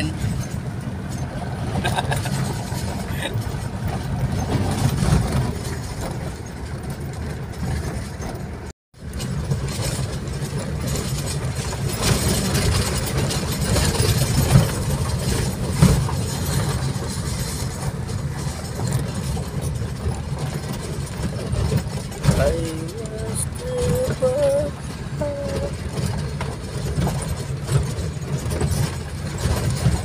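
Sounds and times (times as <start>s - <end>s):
car engine on rough track: 0.0s - 30.0s.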